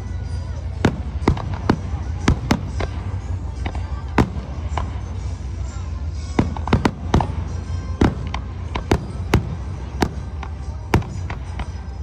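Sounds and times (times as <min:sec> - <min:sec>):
fireworks bangs: 0:00.7 - 0:12.0.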